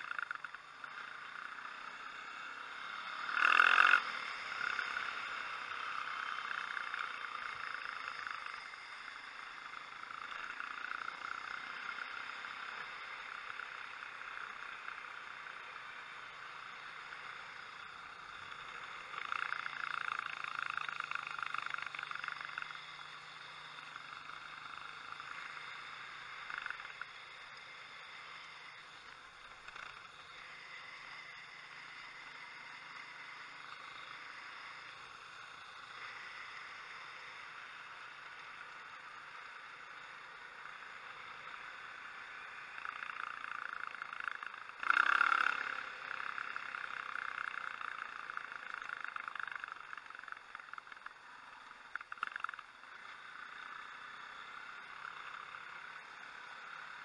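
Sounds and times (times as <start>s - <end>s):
muffled motorcycle engine: 0.0s - 57.0s.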